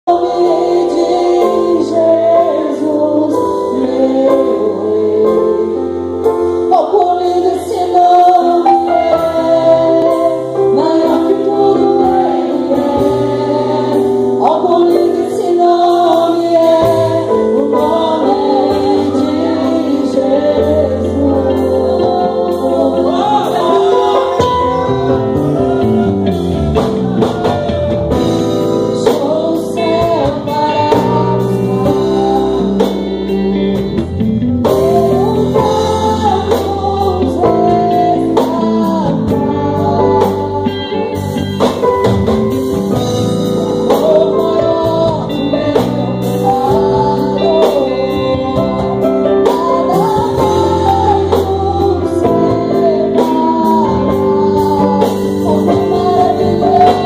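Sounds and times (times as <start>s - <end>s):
bass guitar: 0.0s - 57.0s
electric guitar lead melody: 0.0s - 57.0s
keyboard: 0.0s - 57.0s.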